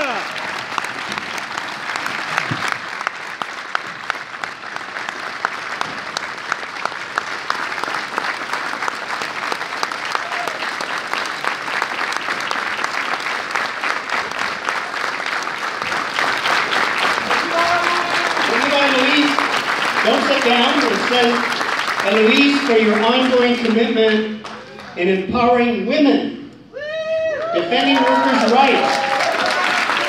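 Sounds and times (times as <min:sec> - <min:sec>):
audience applauding: 0:00.0 - 0:25.0, 0:27.3 - 0:30.0.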